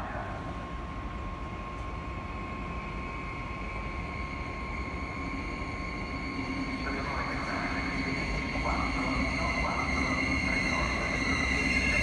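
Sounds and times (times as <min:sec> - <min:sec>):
train low rumble: 0:00.0 - 0:12.0
high-pitched whine: 0:02.3 - 0:12.0.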